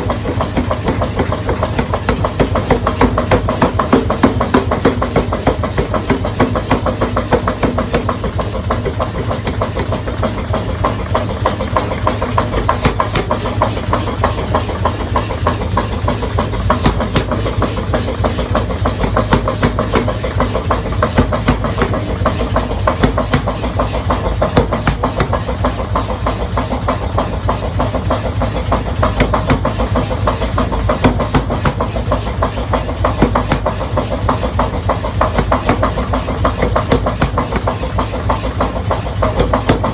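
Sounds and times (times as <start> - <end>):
factory machinery running: 0.0 - 39.9
rapid knocks and clatter: 0.0 - 39.9.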